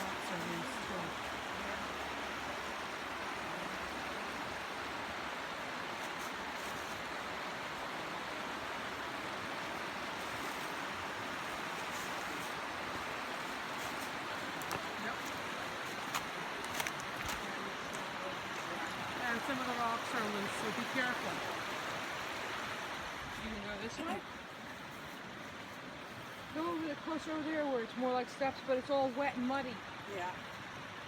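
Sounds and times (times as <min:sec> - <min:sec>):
creek water rushing: 0:00.0 - 0:31.0.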